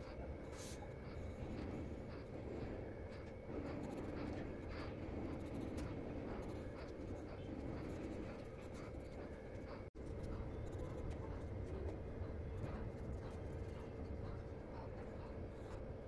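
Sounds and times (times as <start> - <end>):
low background hum: 0.0 - 16.0
pencil scratching on paper: 0.0 - 16.0.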